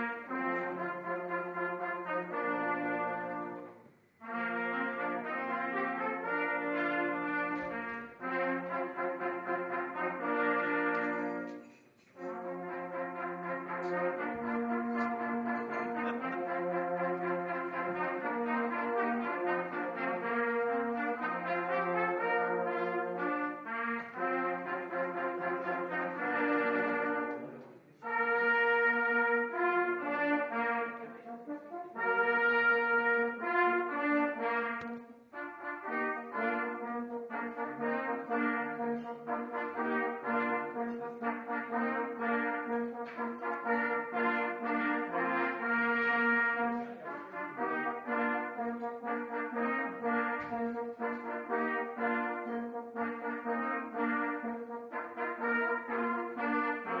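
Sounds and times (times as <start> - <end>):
hunting horns playing fanfare: 0.0 - 11.6, 12.2 - 57.0.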